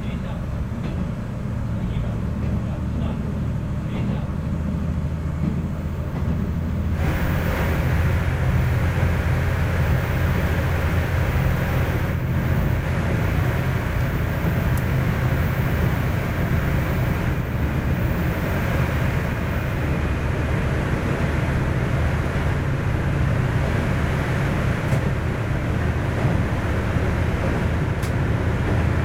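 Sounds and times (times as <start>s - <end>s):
railcar engine drone: 0.0s - 29.0s
wheel and rail noise: 0.0s - 29.0s.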